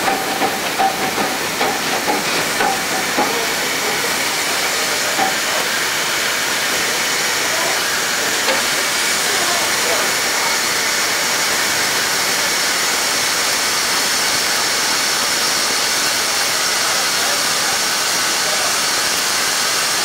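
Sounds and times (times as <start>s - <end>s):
steam hissing from locomotive: 0.0s - 20.0s.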